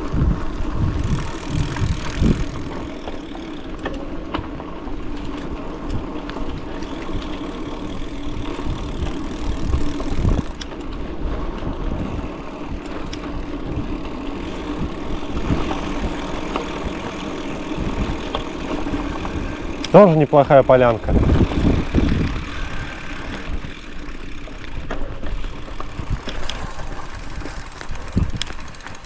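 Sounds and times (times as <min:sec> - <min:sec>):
bicycle rattles and knocks: 0:00.0 - 0:29.0
bicycle tyre rumble: 0:00.0 - 0:29.0
wind buffeting microphone: 0:00.0 - 0:29.0.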